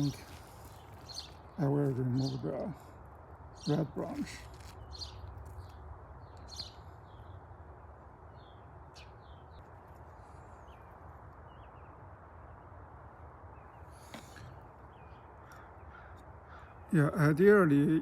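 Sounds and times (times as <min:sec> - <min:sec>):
outdoor background hum: 0:00.0 - 0:18.0.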